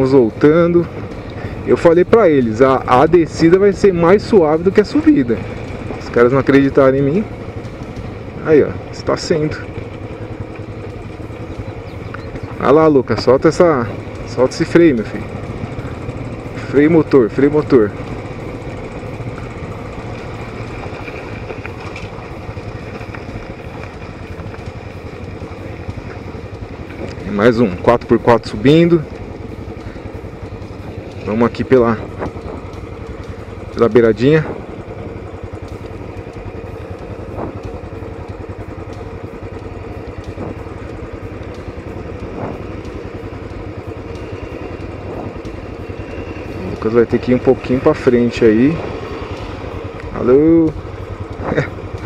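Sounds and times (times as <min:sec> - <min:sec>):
motorcycle engine braking: 0:00.0 - 0:52.0.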